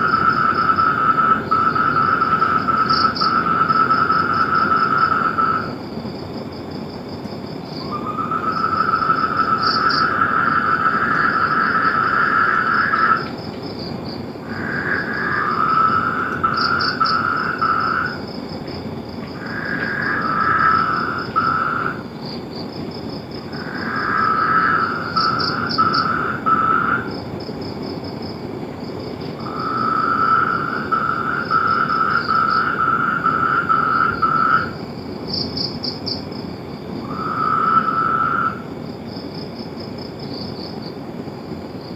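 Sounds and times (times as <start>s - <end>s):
frogs calling in pulsed trills: 0.0s - 5.8s, 7.6s - 27.9s, 29.2s - 39.2s
insect chorus pulsing: 0.0s - 41.9s.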